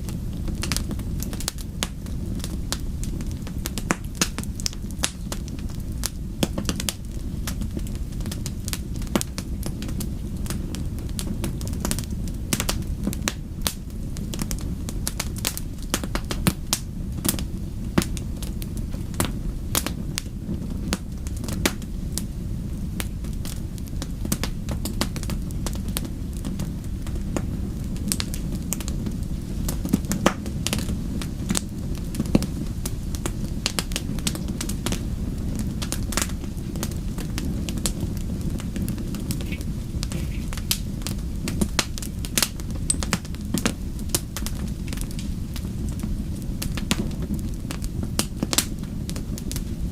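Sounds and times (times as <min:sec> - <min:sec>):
fire crackling and popping: 0:00.0 - 0:49.9
low fire rumble: 0:00.0 - 0:49.9.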